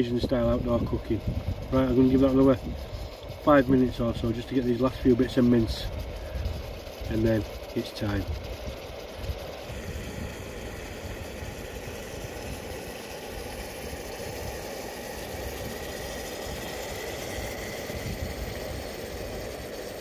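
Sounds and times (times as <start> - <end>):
mince sizzling in a pan: 0.0 - 20.0.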